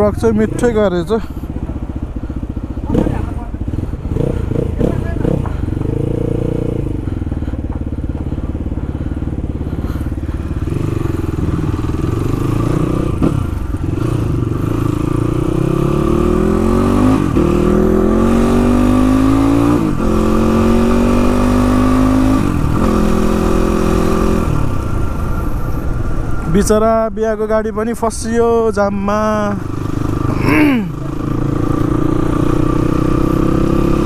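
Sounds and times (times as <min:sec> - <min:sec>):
motorcycle engine accelerating: 0:00.0 - 0:26.5, 0:29.1 - 0:34.0.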